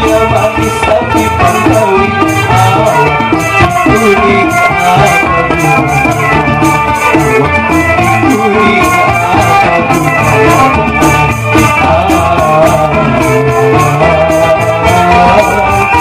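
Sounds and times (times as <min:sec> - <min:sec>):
man singing into microphone: 0:00.0 - 0:16.0
plucked strings and guitar: 0:00.0 - 0:16.0
steady drum beat: 0:00.0 - 0:16.0.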